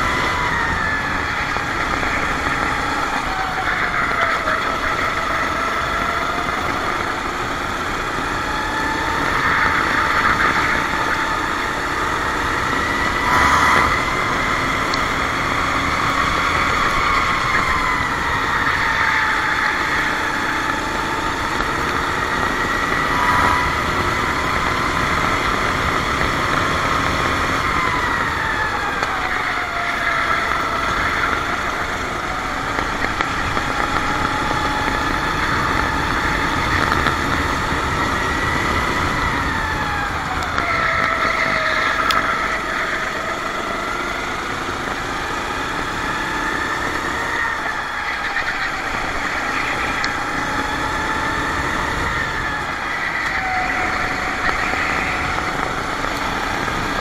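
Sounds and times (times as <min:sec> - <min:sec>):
kart engine at high revs: 0:00.0 - 0:57.0.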